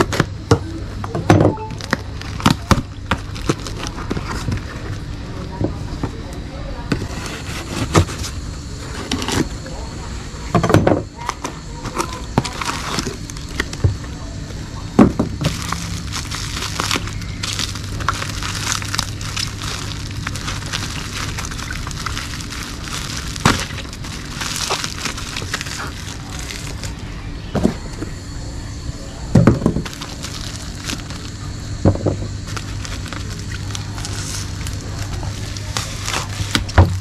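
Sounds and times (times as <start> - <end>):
plastic wrapping crackling: 1.6 - 9.8, 11.2 - 14.2, 15.1 - 27.1, 29.6 - 37.0.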